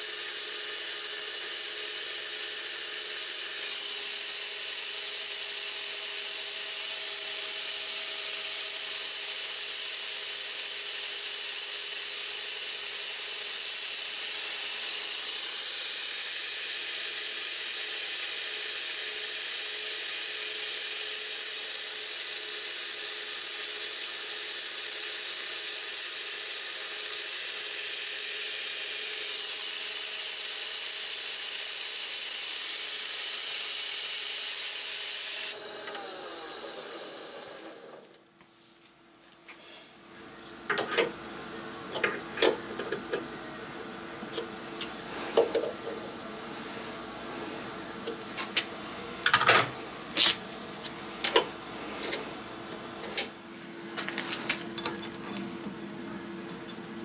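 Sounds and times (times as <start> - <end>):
metal lathe whining: 0.0 - 38.3, 40.0 - 57.0.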